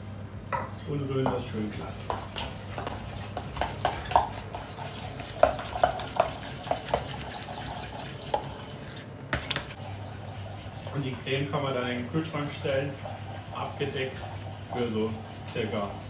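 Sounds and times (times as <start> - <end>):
steady low hum: 0.0 - 16.0
utensil scraping a metal bowl: 1.6 - 9.1, 9.7 - 16.0.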